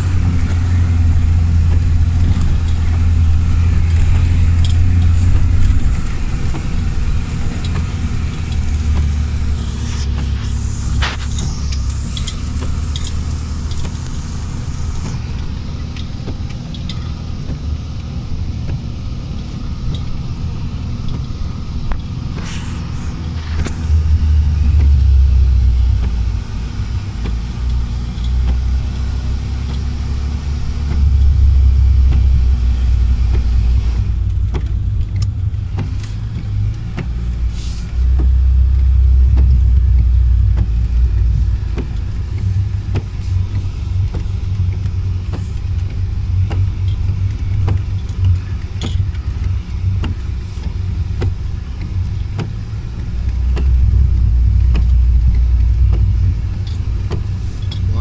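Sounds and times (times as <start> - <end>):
car engine rumble from cabin: 0.0 - 58.0.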